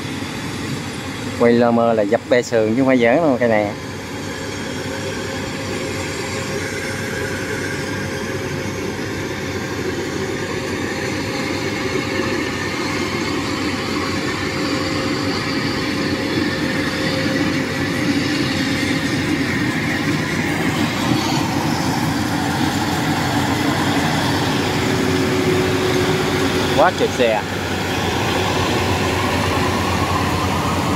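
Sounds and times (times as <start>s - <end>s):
machine whine: 3.7s - 30.9s
combine harvester engine and clatter: 4.5s - 30.9s.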